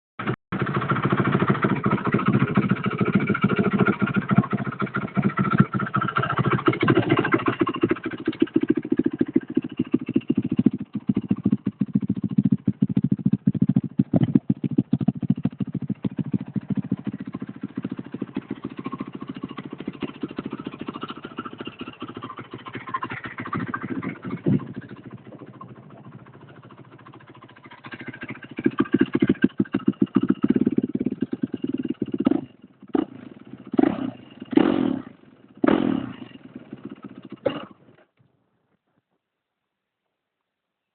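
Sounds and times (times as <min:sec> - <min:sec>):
motorcycle engine running: 0:00.2 - 0:38.2.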